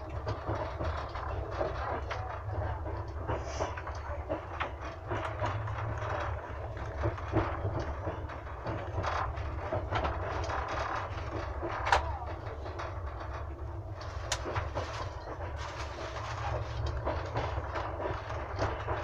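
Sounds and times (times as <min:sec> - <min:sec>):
train carriage rumble: 0:00.0 - 0:19.0.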